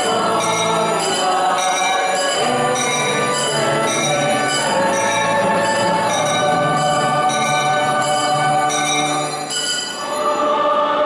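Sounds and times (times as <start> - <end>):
bells ringing: 0.0 - 10.9
sustained music: 0.0 - 11.0.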